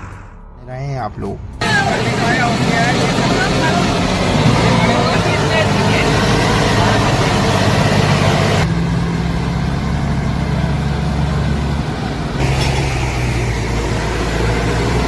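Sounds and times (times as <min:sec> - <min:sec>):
tractor diesel engine running: 0:01.2 - 0:15.0.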